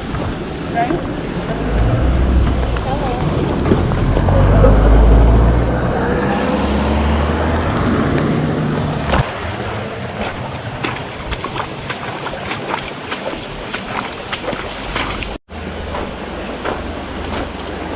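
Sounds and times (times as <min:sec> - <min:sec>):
motor engine humming: 0:00.0 - 0:17.9.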